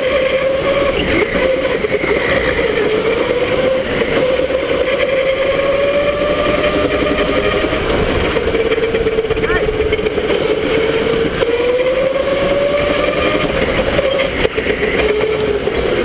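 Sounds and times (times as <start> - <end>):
constant rushing noise: 0.0 - 16.0
electric motor whining: 0.0 - 16.0.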